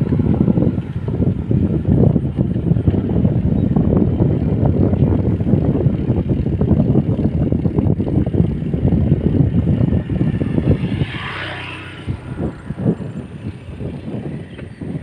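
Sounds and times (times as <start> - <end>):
vehicle engine drone: 0.0 - 15.0
wind buffeting microphone: 0.0 - 15.0.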